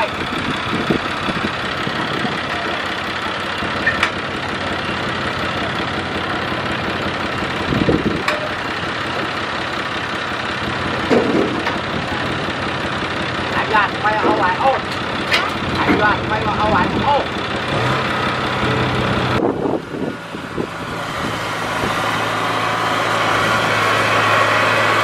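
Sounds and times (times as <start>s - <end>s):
harvester diesel engine running: 0.0s - 25.0s.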